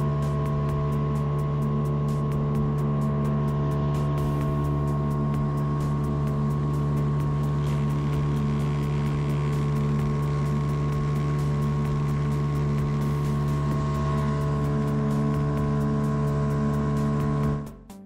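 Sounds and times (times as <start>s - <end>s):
diesel engine running: 0.0s - 17.8s.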